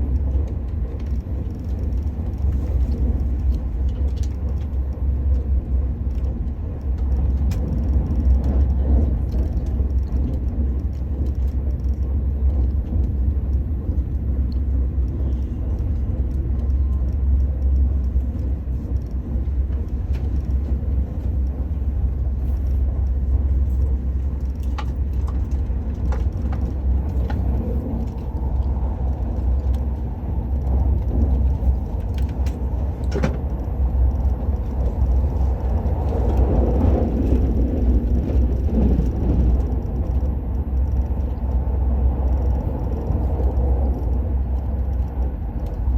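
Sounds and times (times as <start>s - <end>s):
train cabin rumble and rushing: 0.0s - 45.9s.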